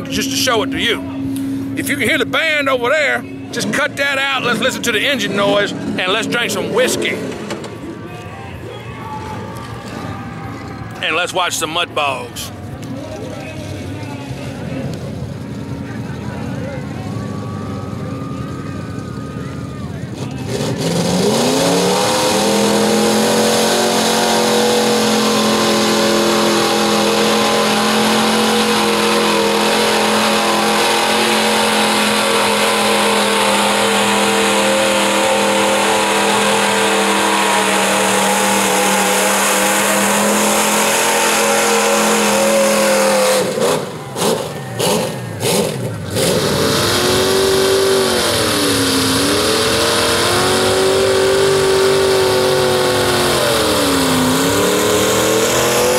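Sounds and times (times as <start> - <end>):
vehicle engine revving: 0.0 - 8.1, 12.0 - 55.9
truck engine at high revs: 0.0 - 55.9.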